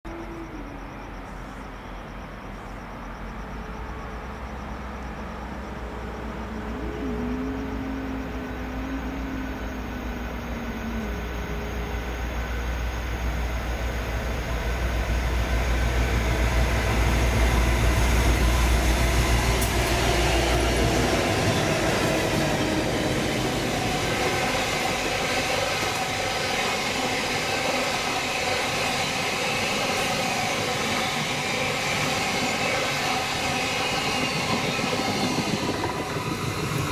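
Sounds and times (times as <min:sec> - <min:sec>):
locomotive engine rumble: 0:00.2 - 0:36.9.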